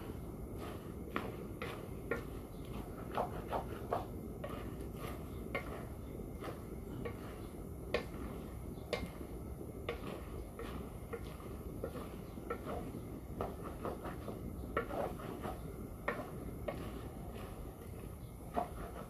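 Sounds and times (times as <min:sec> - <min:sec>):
spatula scraping metal wok: 0:00.0 - 0:19.0.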